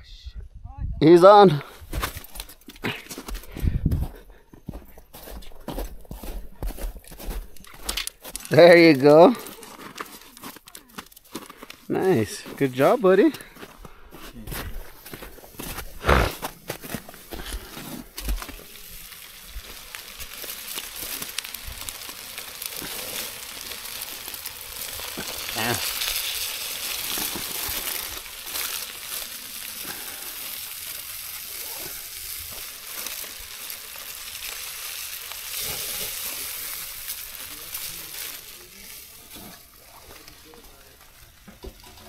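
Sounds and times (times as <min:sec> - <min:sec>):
foil crinkling: 0:01.9 - 0:42.0
fish sizzling on a grill: 0:06.2 - 0:13.7, 0:14.8 - 0:42.0.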